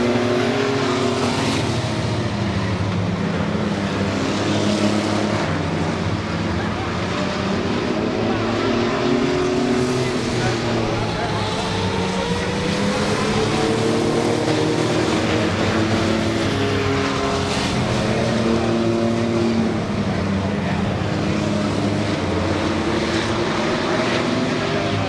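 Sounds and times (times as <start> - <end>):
racing truck engines: 0.0 - 25.0.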